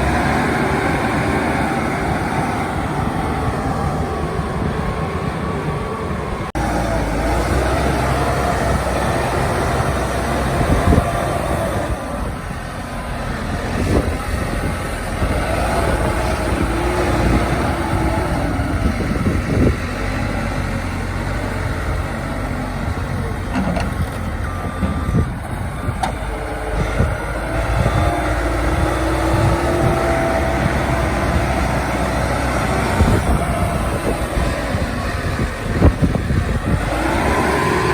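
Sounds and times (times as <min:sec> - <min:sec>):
backhoe loader engine running: 0:00.0 - 0:37.9.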